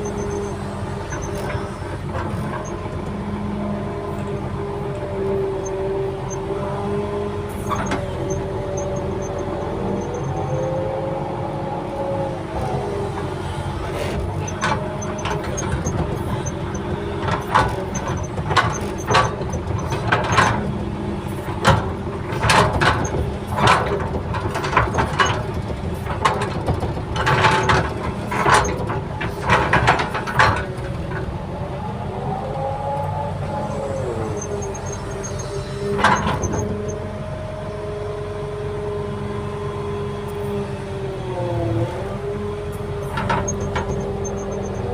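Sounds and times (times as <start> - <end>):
excavator engine running: 0.0 - 44.9
knocks and scrapes of excavator: 0.0 - 44.9.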